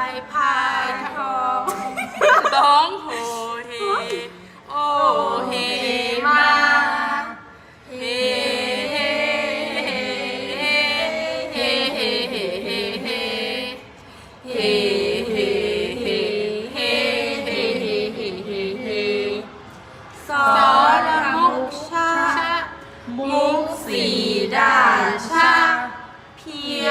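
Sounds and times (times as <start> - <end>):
voices chanting sung verse: 0.0 - 26.9.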